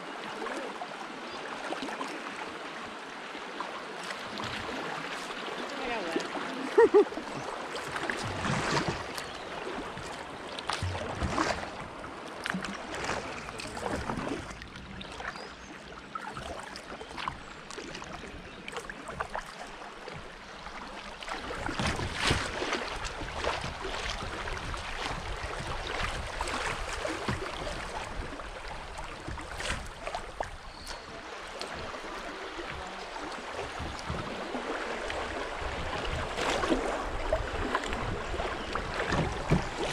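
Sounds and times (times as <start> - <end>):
paddle splashes: 0.0 - 39.9
river water rushing around hull: 0.0 - 39.9.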